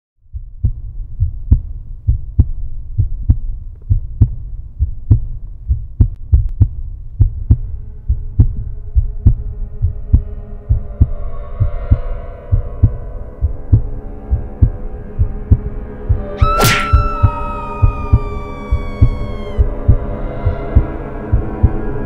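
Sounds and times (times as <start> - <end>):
deep heartbeat-like thumping: 0.2 - 16.3, 16.9 - 22.0.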